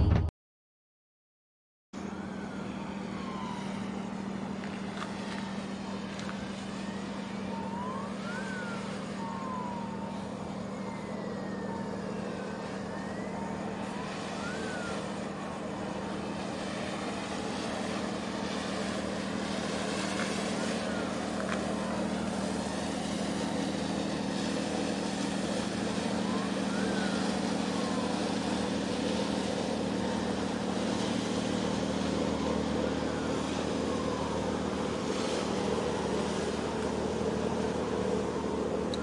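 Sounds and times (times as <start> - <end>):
ambient noise: 2.0 - 39.0
faint siren wailing: 2.0 - 39.0.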